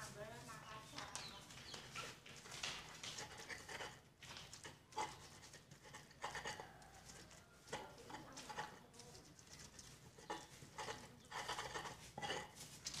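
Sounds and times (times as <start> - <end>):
stone pestle scraping in mortar: 1.0 - 13.0.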